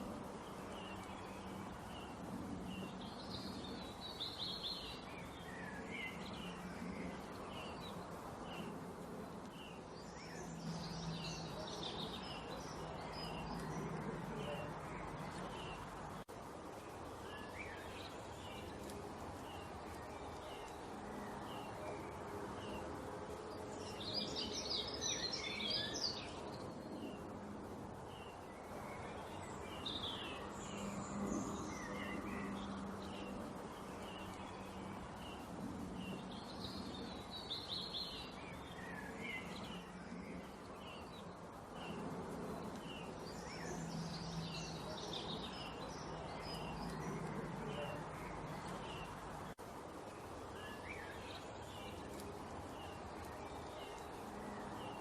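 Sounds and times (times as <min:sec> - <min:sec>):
background noise with low hum: 0:00.0 - 0:55.0
songbirds chirping: 0:00.0 - 0:55.0.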